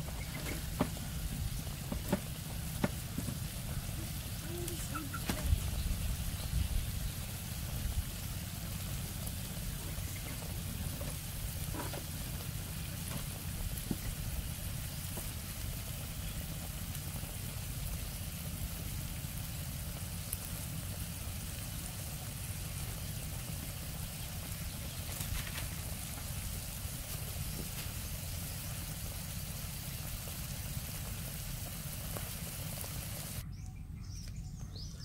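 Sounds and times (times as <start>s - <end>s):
low rumble with hiss: 0.0s - 35.0s.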